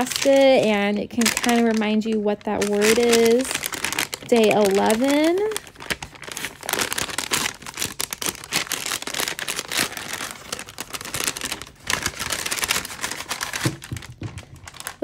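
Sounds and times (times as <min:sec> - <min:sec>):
gift bag rustling and crinkling: 0:00.0 - 0:15.0.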